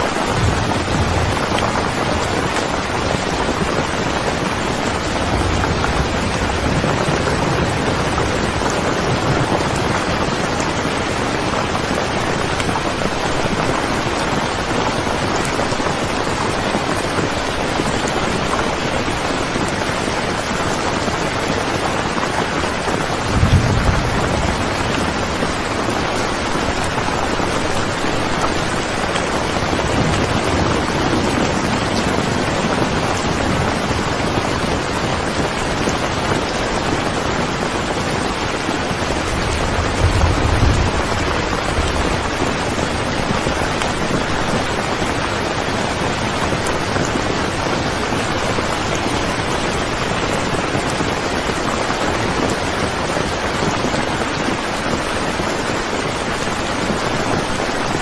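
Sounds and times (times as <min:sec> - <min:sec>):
heavy rainfall: 0:00.0 - 0:58.0.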